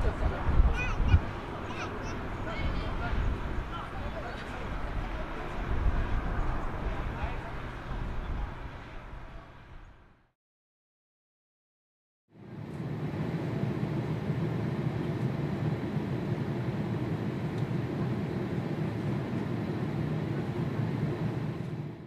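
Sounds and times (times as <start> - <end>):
airliner cabin engine rumble: 0.0 - 10.2, 12.4 - 22.0.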